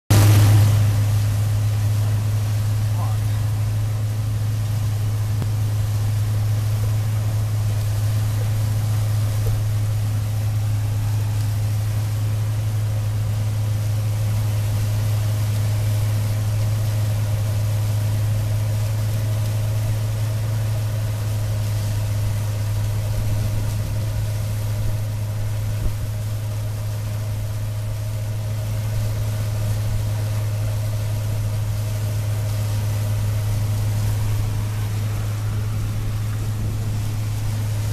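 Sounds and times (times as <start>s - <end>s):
combine harvester drone: 0.1s - 37.9s.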